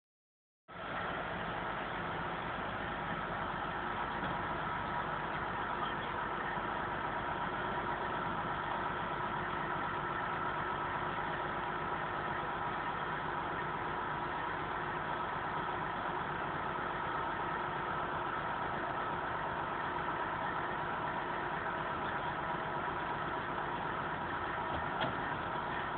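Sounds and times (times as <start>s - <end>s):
constant high whine: 0.7s - 25.9s
engine running: 0.7s - 25.9s.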